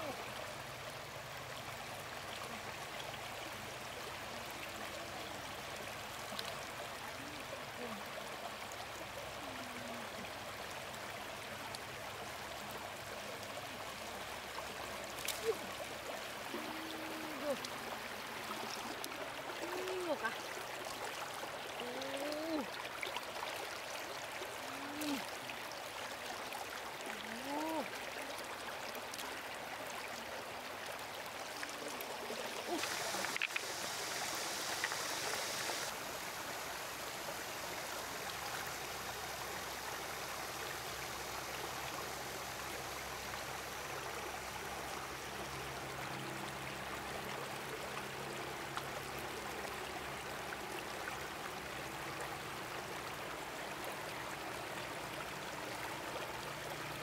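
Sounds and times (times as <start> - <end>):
stream water over stones: 0.0 - 57.0.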